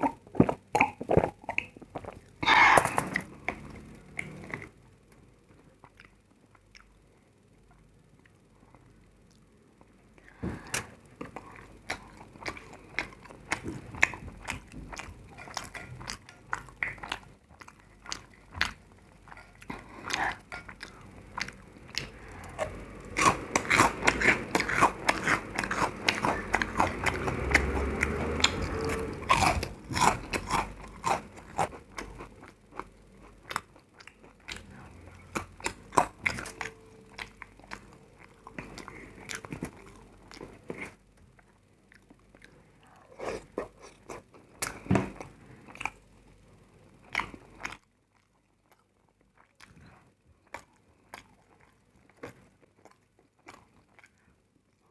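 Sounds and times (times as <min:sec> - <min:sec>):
person chewing crunchy food: 0:00.0 - 0:04.8, 0:10.6 - 0:46.1, 0:47.0 - 0:54.9.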